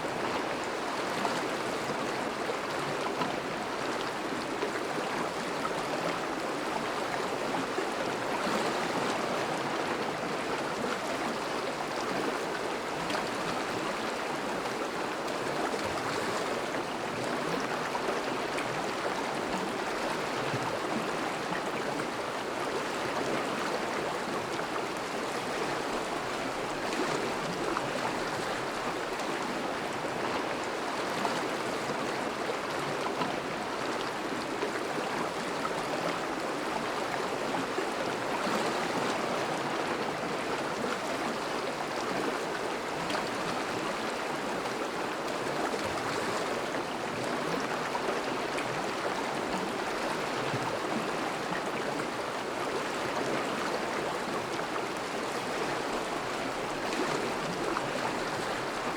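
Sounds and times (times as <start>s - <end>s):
river water rushing: 0.1s - 58.9s.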